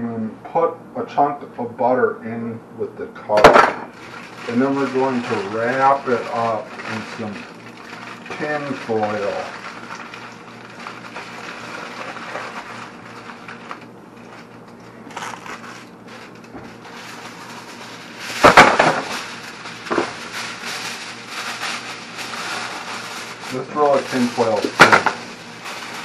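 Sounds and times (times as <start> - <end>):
foil sheet tearing: 3.3 - 26.0
aluminium foil crinkling: 3.4 - 26.0.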